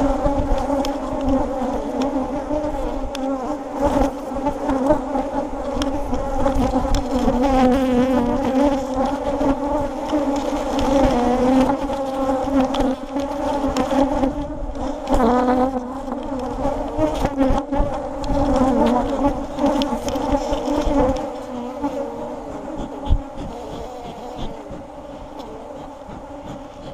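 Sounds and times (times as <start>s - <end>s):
bees buzzing loudly: 0.0s - 26.9s.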